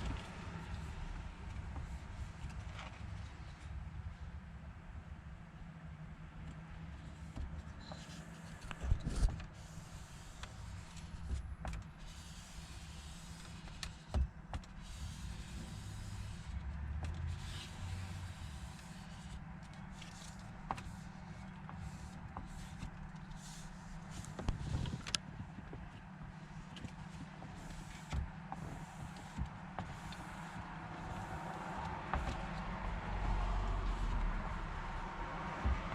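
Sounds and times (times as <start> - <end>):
low hum in vehicle cabin: 0.0 - 35.9.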